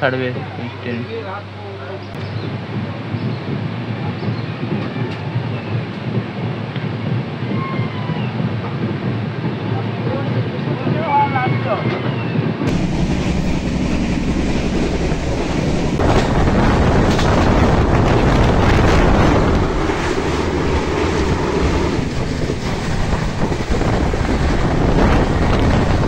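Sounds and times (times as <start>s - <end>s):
train wheel and rail noise: 0.0s - 26.0s
wind buffeting microphone: 2.2s - 26.0s.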